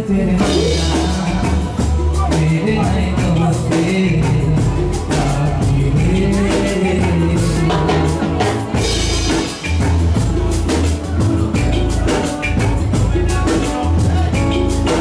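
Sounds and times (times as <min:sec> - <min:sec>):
drums: 0:00.0 - 0:15.0
live amplified band: 0:00.0 - 0:15.0.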